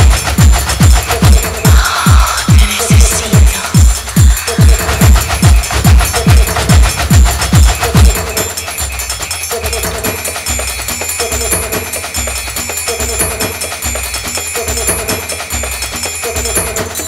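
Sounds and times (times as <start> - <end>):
repeating bass beat: 0.0 - 15.3
upbeat music with percussion: 0.0 - 17.0.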